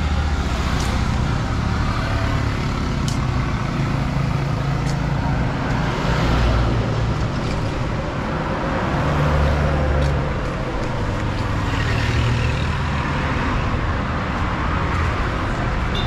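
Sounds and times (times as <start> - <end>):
road traffic noise: 0.0 - 16.0
vehicles passing: 0.0 - 16.0.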